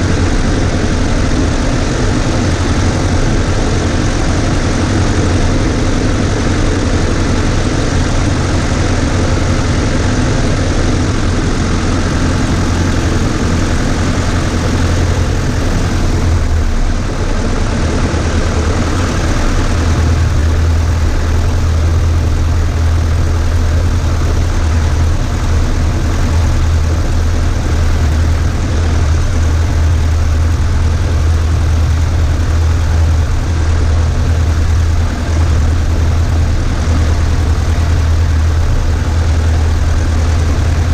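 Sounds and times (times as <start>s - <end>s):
airplane piston engine and propeller: 0.0s - 40.9s.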